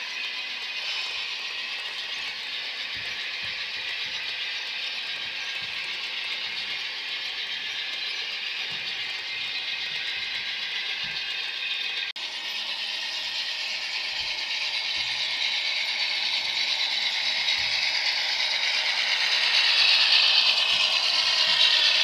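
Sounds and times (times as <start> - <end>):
model trains whirring on track: 0.0 - 22.0.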